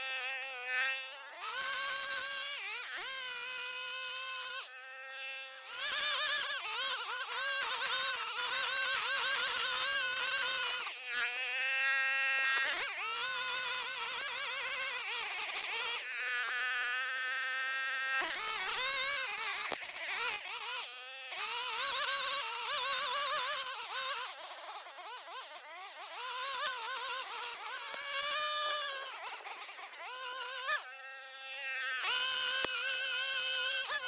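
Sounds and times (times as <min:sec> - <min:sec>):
string trimmer engine cutting grass: 0:00.0 - 0:34.0.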